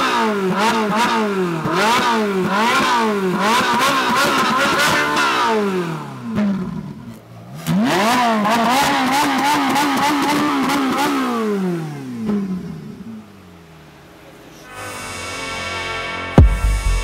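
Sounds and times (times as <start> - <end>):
sports car engine revving: 0.0 - 14.6.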